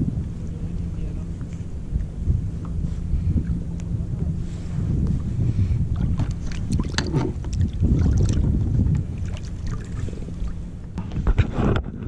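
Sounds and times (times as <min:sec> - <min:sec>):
water moving around kayak: 0:00.0 - 0:12.0
wind buffeting microphone: 0:00.0 - 0:12.0.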